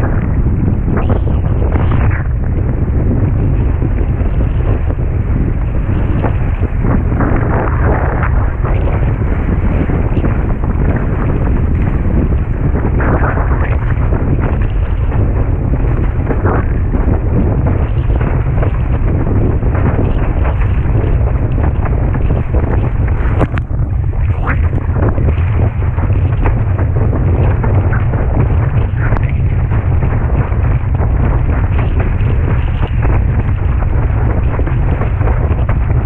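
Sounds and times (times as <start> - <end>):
water rushing and splashing: 0.0 - 36.0
wind buffeting microphone: 0.0 - 36.0.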